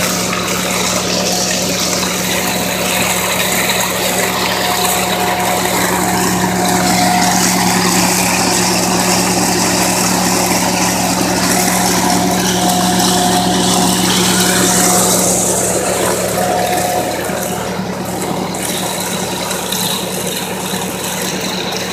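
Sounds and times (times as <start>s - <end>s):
high machine whine: 0.0s - 21.9s
tractor engine hum: 0.0s - 21.9s.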